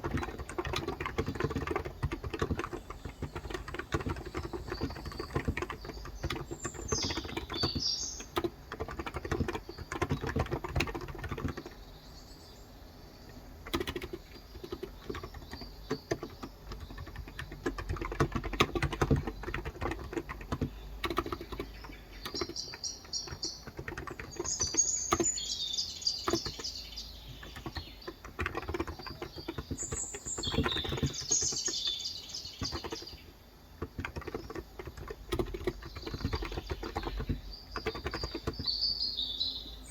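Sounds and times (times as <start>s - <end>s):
keyboard typing: 0.0s - 12.0s, 13.2s - 38.9s
birds chirping: 0.0s - 39.9s.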